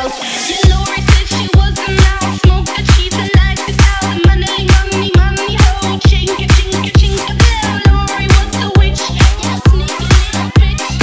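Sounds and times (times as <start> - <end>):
latin dance music: 0.0 - 11.0
heavy bass kick drum: 0.6 - 11.0.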